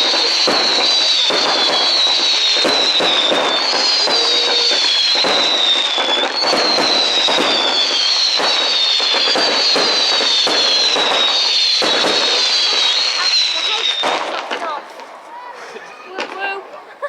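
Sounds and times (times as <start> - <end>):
fireworks whistles sliding down: 0.0 - 15.3
fireworks cracking and banging: 0.0 - 17.0.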